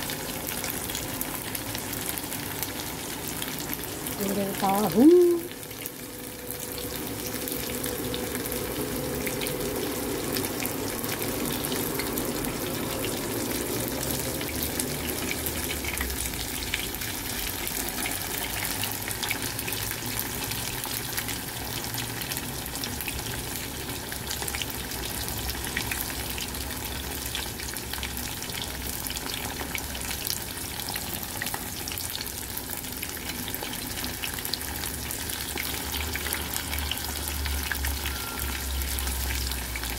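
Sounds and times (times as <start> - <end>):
tofu sizzling in hot oil: 0.0 - 39.9.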